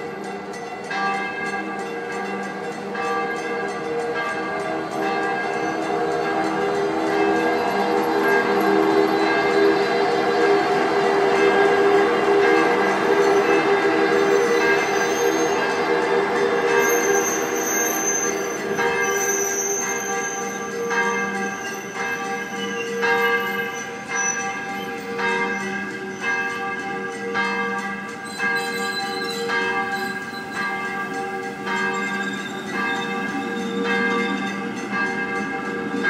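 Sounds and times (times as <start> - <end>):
church bells ringing: 0.0 - 36.0
railway carriages rolling past: 0.0 - 36.0.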